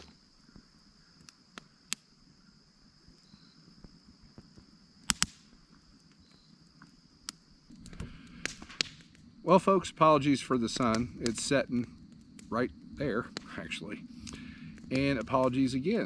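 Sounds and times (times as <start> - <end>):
campfire crackling pops: 0.0 - 16.0
crickets trilling: 0.0 - 16.0.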